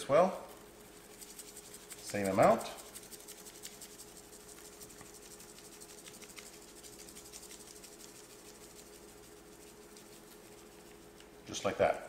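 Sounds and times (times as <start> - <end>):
steady hum: 0.0 - 12.0
seasoning shaker rattling: 0.1 - 11.6.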